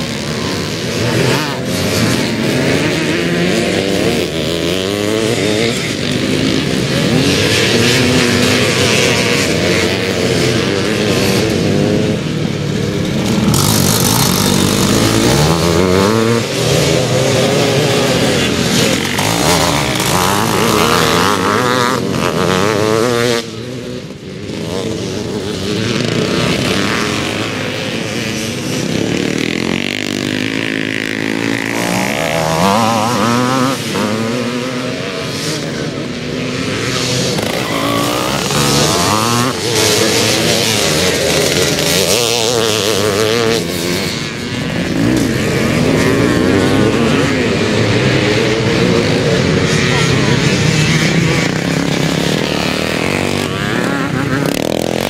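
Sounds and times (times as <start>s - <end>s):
motocross bikes revving past: 0.0s - 55.0s.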